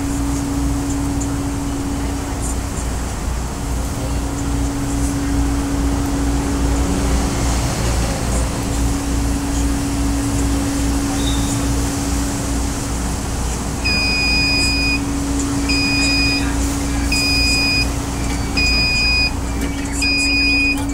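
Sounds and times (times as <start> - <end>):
mechanical drone with throb: 0.0 - 20.9.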